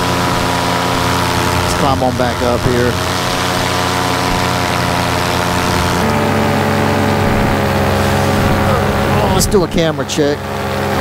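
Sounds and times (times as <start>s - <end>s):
paramotor engine and propeller: 0.0s - 11.0s.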